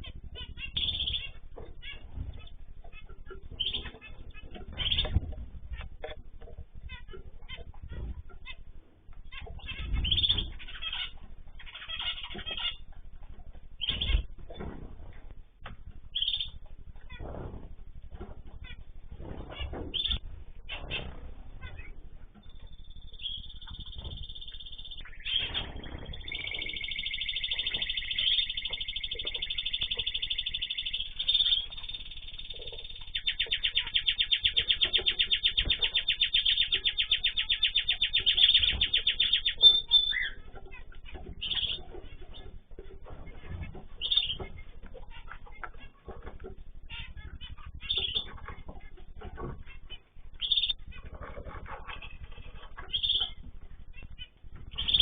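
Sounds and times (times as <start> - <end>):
cage birds singing and chirping: 0.0 - 55.0.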